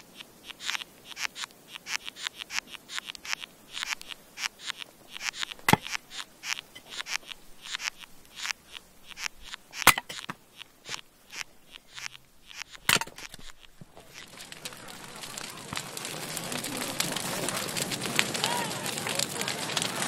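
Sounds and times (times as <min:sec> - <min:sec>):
ants chewing wood: 0:00.0 - 0:20.0.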